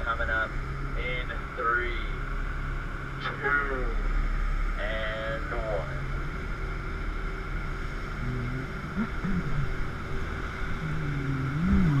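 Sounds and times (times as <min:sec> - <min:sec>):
jet boat engines running: 0:00.0 - 0:12.0.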